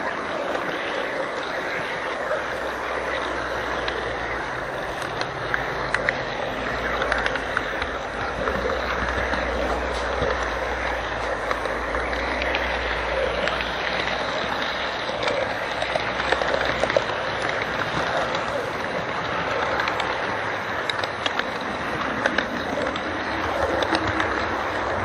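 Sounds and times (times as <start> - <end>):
model train running: 0.0 - 25.0
wheels clicking on rails: 0.0 - 25.0.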